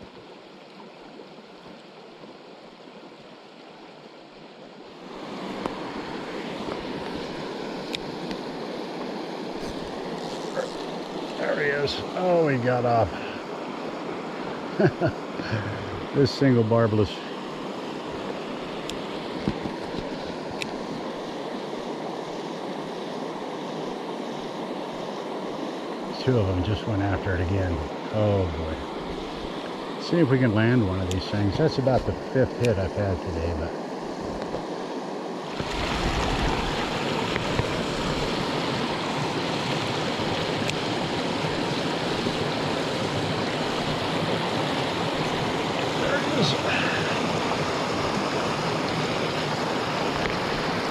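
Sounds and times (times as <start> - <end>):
flowing creek water: 0.0 - 50.9.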